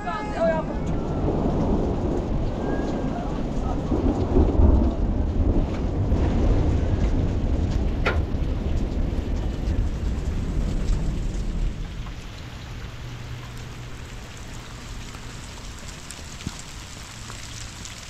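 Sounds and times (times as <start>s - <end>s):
rolling thunder: 0.0s - 16.8s
heavy rain: 0.0s - 18.0s.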